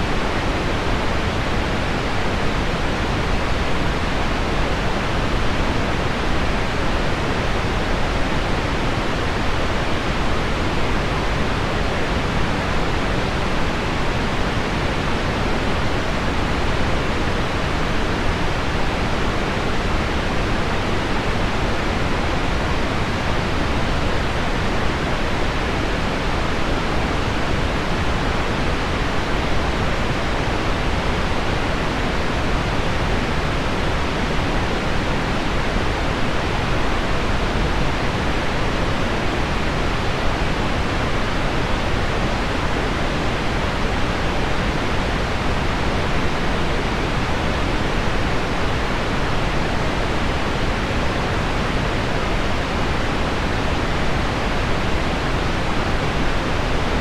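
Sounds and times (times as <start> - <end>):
pink noise: 0.0 - 57.0.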